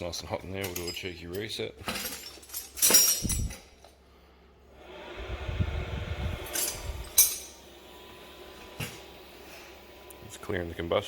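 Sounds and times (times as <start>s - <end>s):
heater fan whining: 0.0s - 11.0s.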